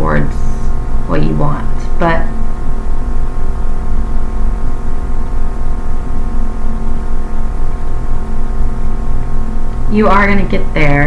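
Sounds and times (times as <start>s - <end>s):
loud steady hum: 0.0s - 11.0s.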